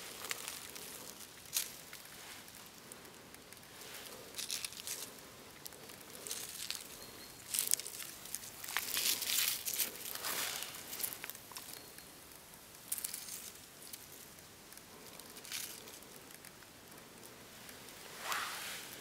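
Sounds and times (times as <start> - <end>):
dry leaves rustling: 0.0 - 2.9, 3.6 - 16.6.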